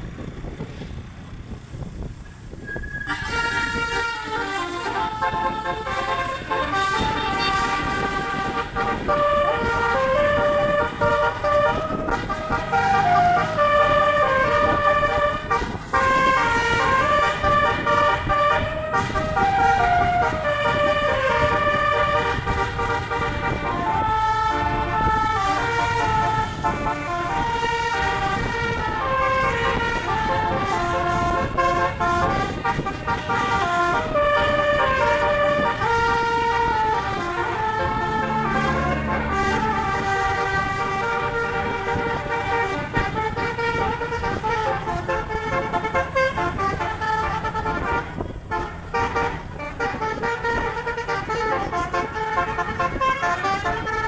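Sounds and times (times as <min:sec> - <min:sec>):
bus air horns playing melody: 0:02.6 - 0:54.0.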